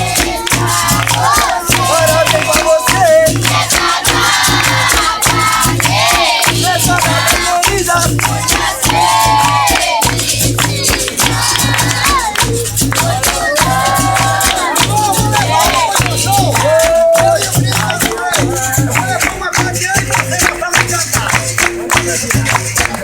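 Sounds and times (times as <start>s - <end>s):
berimbau: 0.0s - 23.0s
hand claps: 0.0s - 23.0s
pandeiro rhythm: 0.0s - 23.0s
voices singing: 0.0s - 23.0s.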